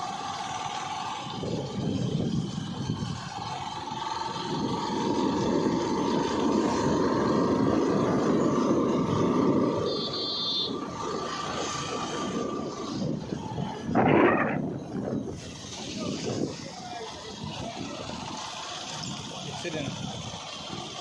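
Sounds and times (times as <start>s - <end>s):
thin steady whine: 0.0s - 21.0s
vehicle rumbling on the move: 0.0s - 21.0s.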